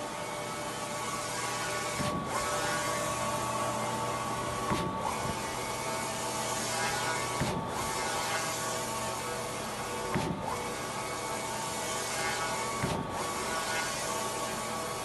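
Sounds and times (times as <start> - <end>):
printer carriage whirring: 0.0 - 15.0
printer hum: 0.0 - 15.0.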